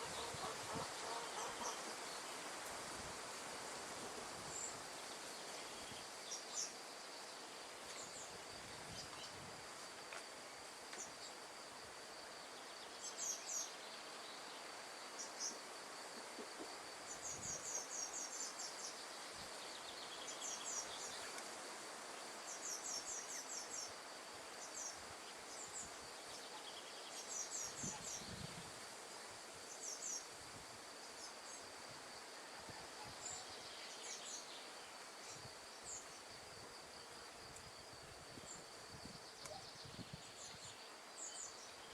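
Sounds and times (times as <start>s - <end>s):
soft even hiss: 0.0s - 41.9s.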